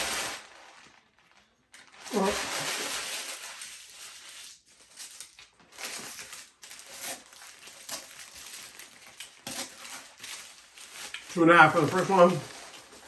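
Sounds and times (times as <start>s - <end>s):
soft crinkling: 0.0s - 13.0s.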